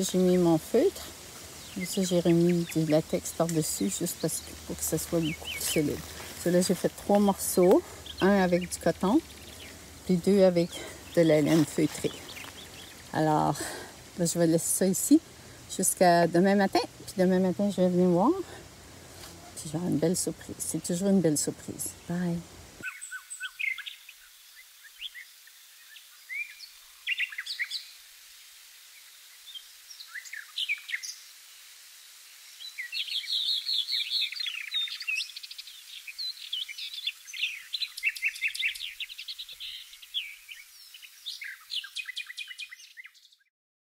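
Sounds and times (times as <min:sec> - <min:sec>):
songbirds singing and chirping: 0:00.0 - 0:28.1, 0:29.0 - 0:31.4, 0:32.0 - 0:43.5.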